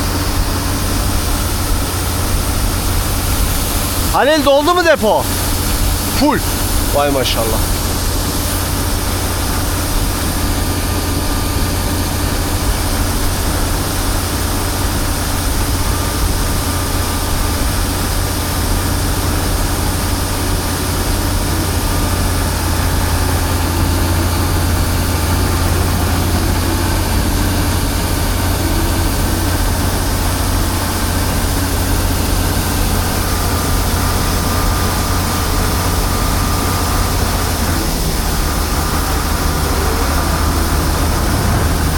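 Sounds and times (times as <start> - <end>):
combine harvester engine drone: 0.0 - 41.9.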